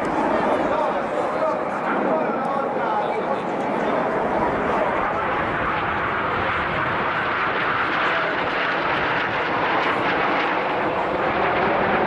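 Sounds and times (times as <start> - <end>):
jet engines rushing overhead: 0.0 - 12.0.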